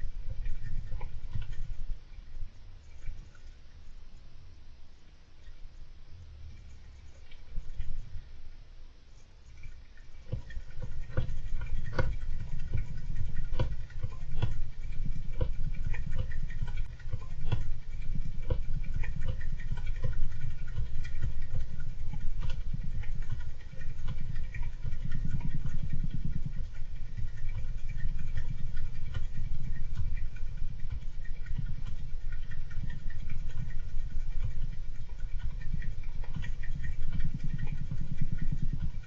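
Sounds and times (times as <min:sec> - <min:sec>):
hamster clicks and scratching: 0:00.0 - 0:01.9, 0:09.4 - 0:39.0
low rumble: 0:00.0 - 0:39.0.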